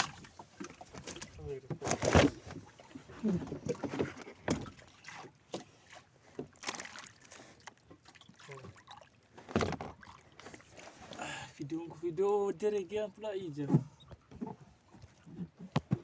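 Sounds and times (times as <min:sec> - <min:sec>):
water noise: 0:00.0 - 0:16.0.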